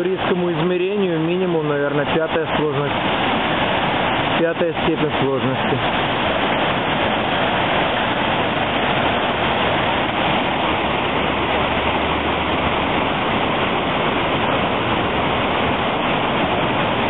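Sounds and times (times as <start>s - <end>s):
stream rushing over rapids: 0.0s - 17.0s.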